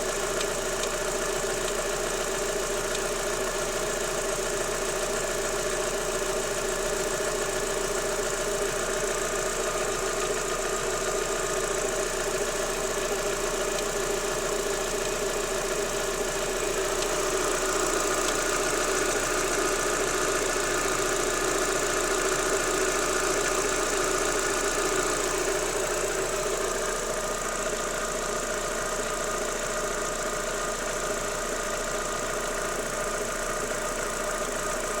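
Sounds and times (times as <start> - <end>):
car engine knocking: 0.0 - 35.0.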